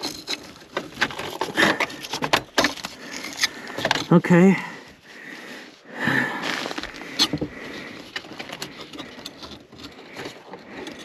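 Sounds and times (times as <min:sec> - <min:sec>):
hands rustling with wiring: 0:00.0 - 0:04.2, 0:04.9 - 0:11.0.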